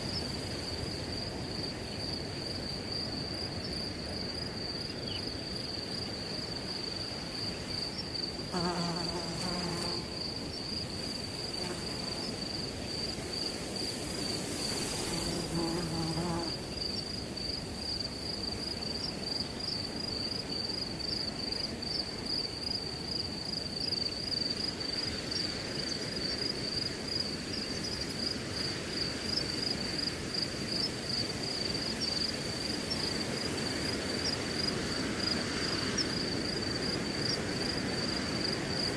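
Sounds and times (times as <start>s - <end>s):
crickets chirping: 0.0s - 38.9s
wind through grass: 0.0s - 38.9s.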